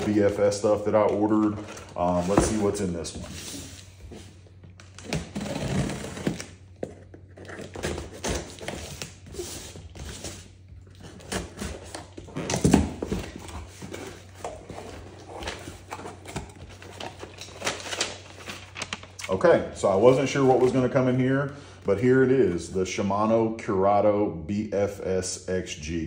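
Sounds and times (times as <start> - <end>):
paper rustling: 0.0 - 21.1.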